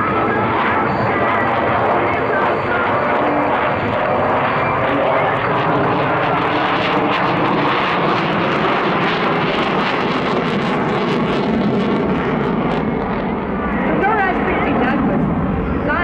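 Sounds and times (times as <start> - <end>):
jet aircraft engine roar: 0.0 - 16.0.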